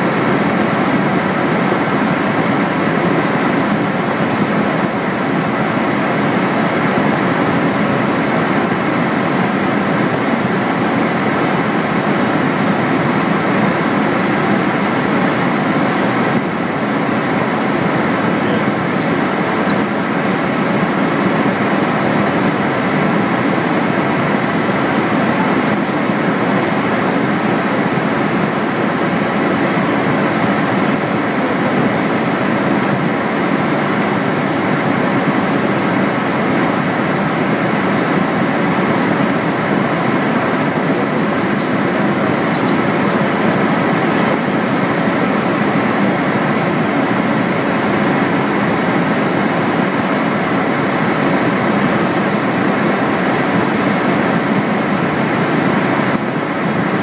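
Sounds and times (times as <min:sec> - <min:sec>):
aircraft cockpit engine drone: 0:00.0 - 0:57.0.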